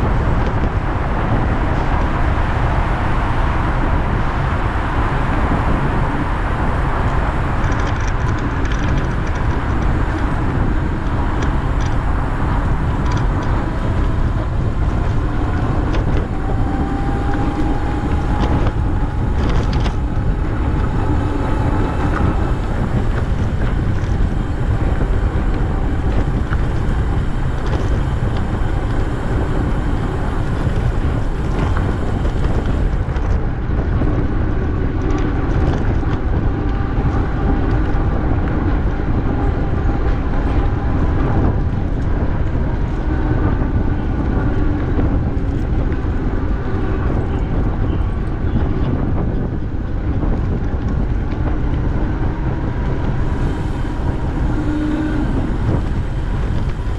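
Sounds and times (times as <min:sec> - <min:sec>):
bicycle tyres rolling: 0:00.0 - 0:56.9
wind rumble on microphone: 0:00.0 - 0:56.9.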